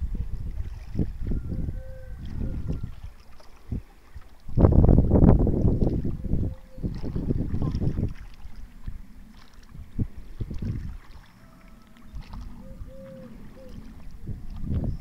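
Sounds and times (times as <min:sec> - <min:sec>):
paddle dipping through water: 0:00.0 - 0:15.0
water splashes: 0:00.0 - 0:15.0
wind on microphone: 0:00.0 - 0:15.0.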